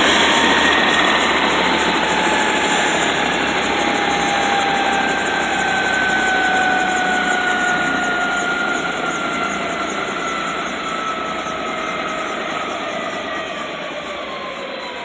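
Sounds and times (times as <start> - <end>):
helicopter turbines winding down: 0.0 - 15.0.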